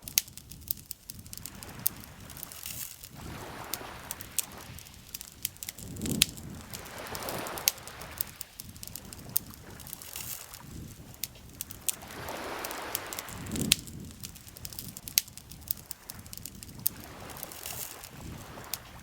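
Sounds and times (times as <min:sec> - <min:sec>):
campfire crackling and popping: 0:00.0 - 0:19.0
waves lapping at shore: 0:00.0 - 0:19.0.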